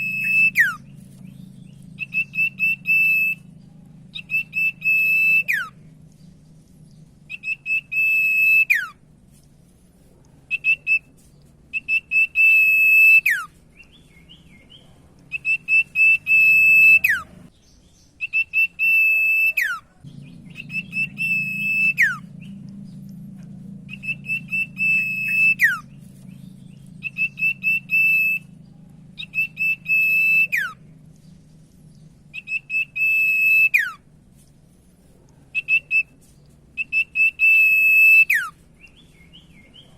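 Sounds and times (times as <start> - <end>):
bird whistling song: 0.0 - 6.3, 6.9 - 9.0, 10.5 - 23.2, 23.8 - 28.6, 29.2 - 34.1, 35.5 - 39.9
faint low hum: 0.0 - 39.9.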